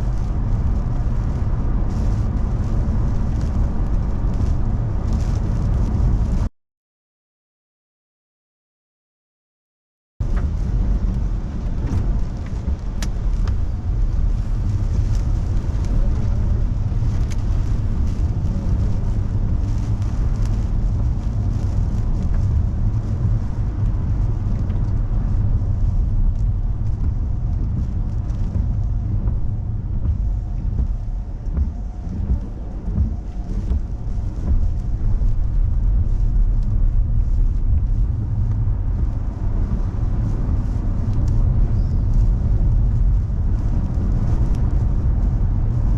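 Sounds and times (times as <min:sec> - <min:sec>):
car driving rumble: 0:00.0 - 0:06.5, 0:10.2 - 0:45.9
road and wind noise: 0:00.0 - 0:06.5, 0:10.2 - 0:45.9.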